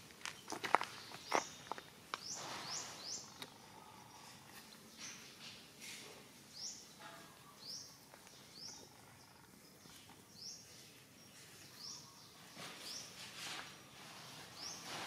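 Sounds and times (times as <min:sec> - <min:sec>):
small bird chirping: 0:00.2 - 0:05.6, 0:06.4 - 0:15.0.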